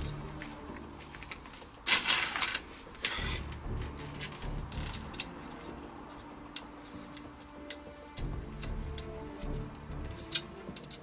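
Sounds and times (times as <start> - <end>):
scraping rustling handling noise: 0.0 - 11.0.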